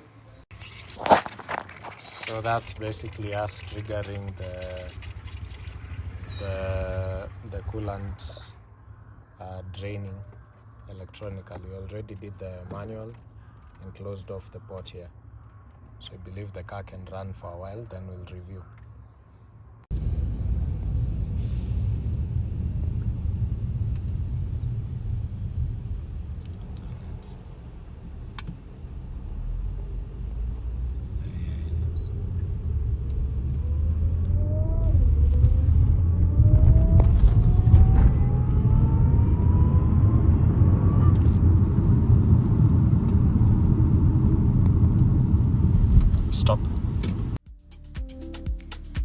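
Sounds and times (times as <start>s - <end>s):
car engine rumbling: 0.0s - 49.0s.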